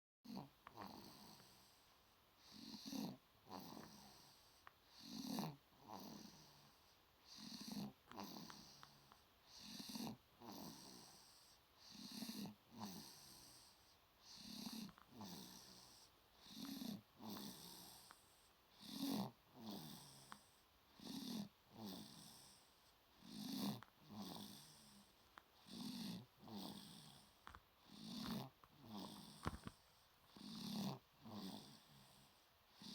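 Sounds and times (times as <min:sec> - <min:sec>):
baby snoring: 0:00.3 - 0:01.8, 0:02.4 - 0:22.6, 0:23.2 - 0:32.9.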